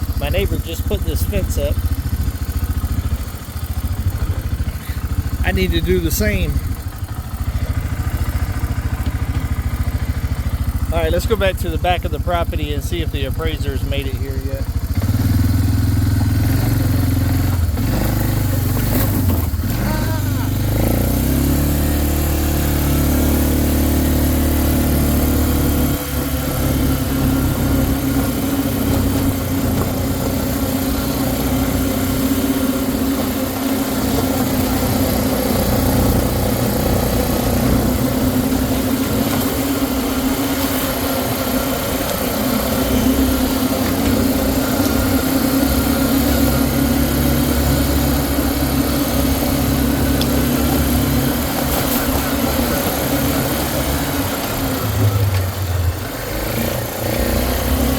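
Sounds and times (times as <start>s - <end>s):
four-wheeler engine running: 0.0s - 57.9s.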